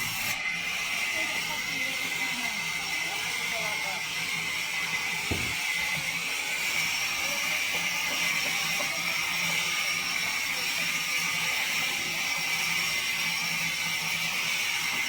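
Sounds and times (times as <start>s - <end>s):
sawmill machine hiss and hum: 0.0s - 15.0s.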